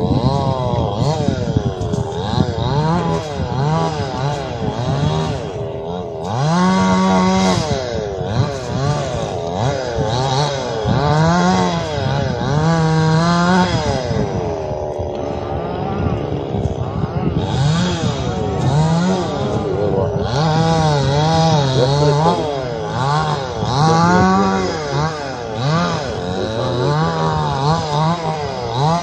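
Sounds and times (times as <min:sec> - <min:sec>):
chainsaw revving: 0:00.0 - 0:29.0.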